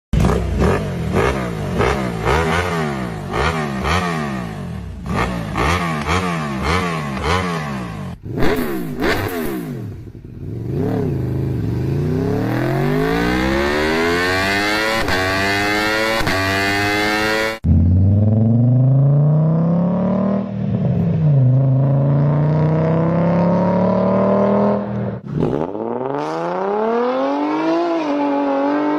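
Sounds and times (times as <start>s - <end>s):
engine revving in throttle blips: 0.2s - 28.9s.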